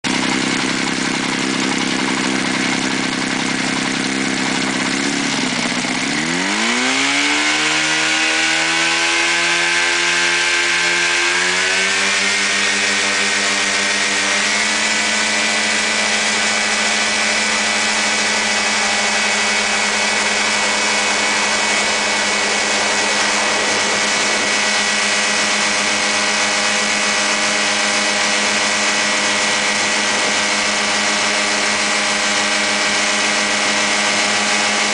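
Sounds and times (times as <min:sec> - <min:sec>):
ultralight aircraft engine and propeller: 0:00.0 - 0:34.9.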